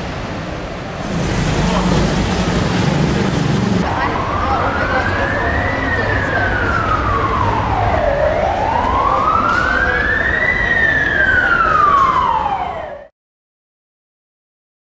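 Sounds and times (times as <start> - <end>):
emergency vehicle siren wailing: 1.1 - 13.1.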